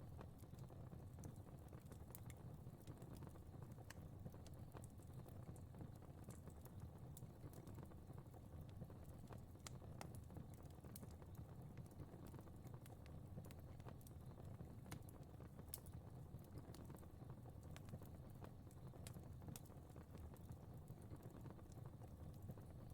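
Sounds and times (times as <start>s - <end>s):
fire crackling and popping: 0.0s - 22.9s
low rumble of flame: 0.0s - 22.9s.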